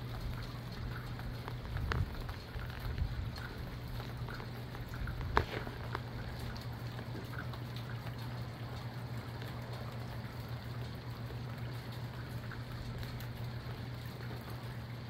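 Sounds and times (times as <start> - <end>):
rain falling: 0.0 - 15.0
steady low hum: 0.0 - 15.0.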